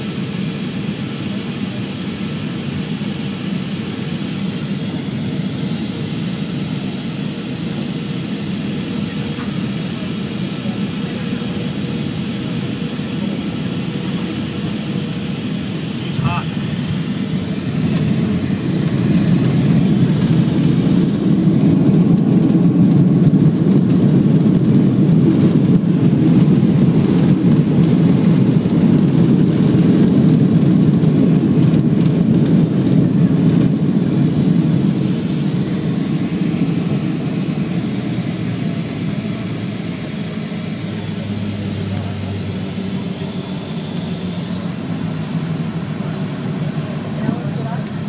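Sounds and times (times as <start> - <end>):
jet engines roaring in reverse thrust: 0.0 - 48.0.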